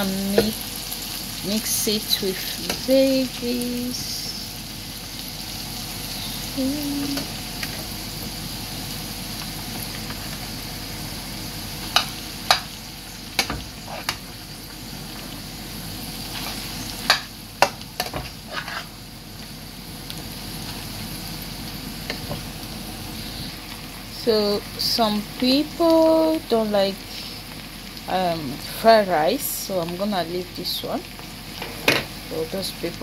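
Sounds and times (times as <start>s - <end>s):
vegetables sizzling in a frying pan: 0.0s - 33.0s.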